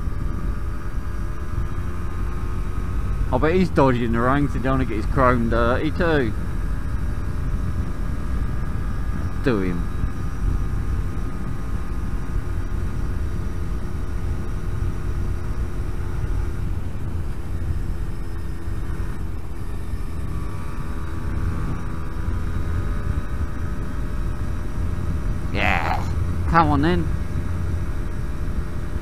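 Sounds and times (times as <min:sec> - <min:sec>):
two-stroke motorcycle engine running: 0:00.0 - 0:29.0
wind rumble: 0:00.0 - 0:29.0.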